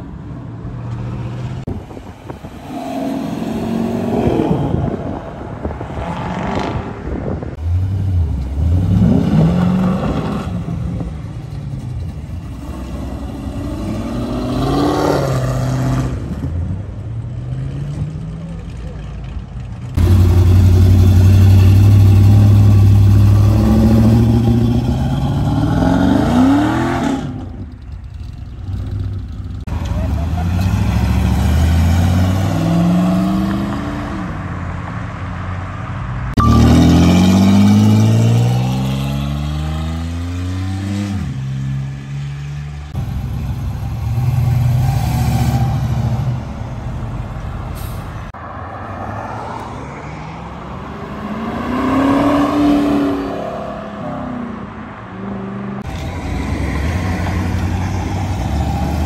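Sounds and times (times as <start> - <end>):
car engines accelerating hard: 1.1 - 47.9, 49.0 - 59.0.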